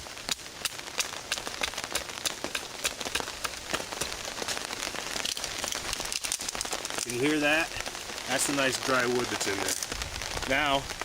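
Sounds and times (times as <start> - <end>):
rain pattering on a tarp: 0.0 - 11.0.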